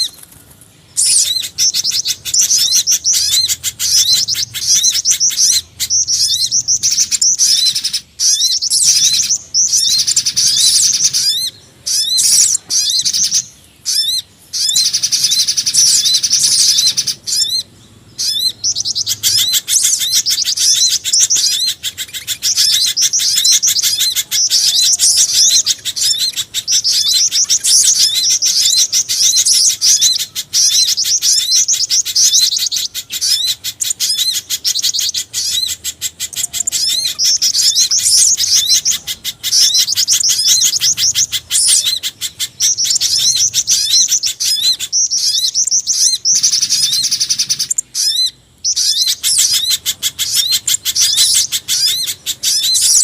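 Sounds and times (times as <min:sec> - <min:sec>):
small birds chirping and trilling: 0:00.0 - 0:53.0.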